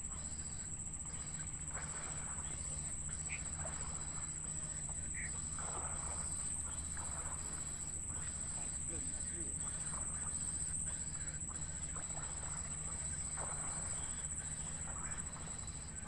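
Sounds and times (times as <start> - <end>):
low steady hum: 0.0 - 16.0
nestlings peeping: 0.1 - 16.0.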